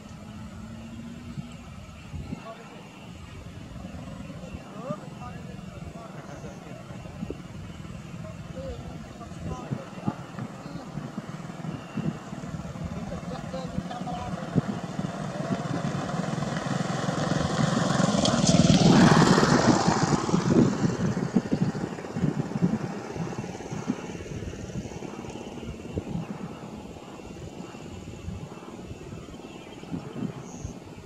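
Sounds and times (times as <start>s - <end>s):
jet engines rumbling: 0.0s - 31.0s.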